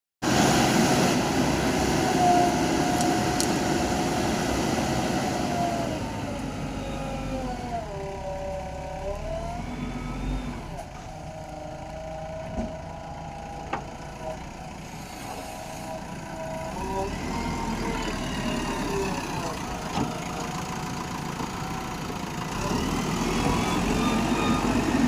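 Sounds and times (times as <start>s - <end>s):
engine whine: 0.2s - 25.0s
heavy vehicle engine running: 0.2s - 25.0s.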